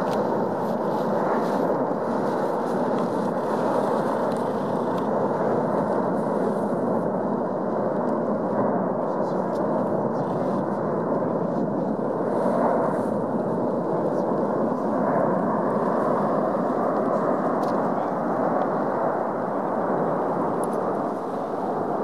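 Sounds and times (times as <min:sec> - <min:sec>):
volcano vent erupting: 0:00.0 - 0:22.0.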